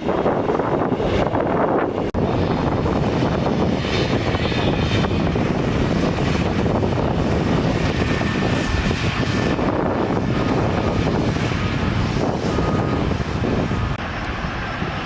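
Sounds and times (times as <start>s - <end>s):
diesel machinery engine drone: 1.8s - 15.0s.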